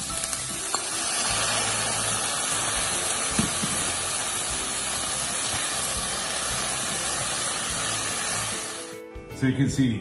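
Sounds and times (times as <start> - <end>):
vegetables sizzling in oil: 0.0 - 9.0.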